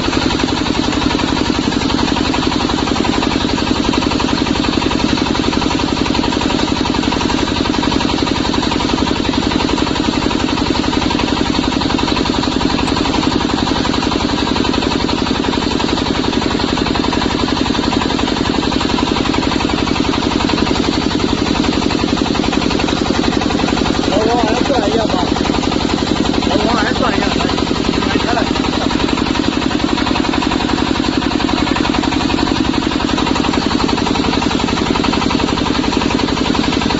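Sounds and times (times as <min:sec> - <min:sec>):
diesel engine chugging: 0:00.0 - 0:36.9.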